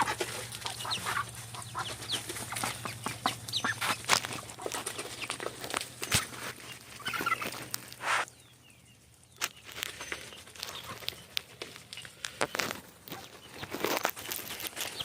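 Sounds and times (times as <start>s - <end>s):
chicken clucking: 0.0s - 8.6s, 9.2s - 15.0s
poultry pecking and footsteps: 0.0s - 15.0s.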